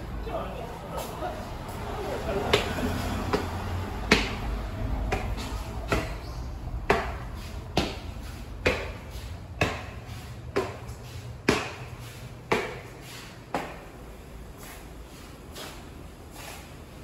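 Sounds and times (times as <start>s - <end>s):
footsteps on concrete stairs: 1.0s - 16.6s.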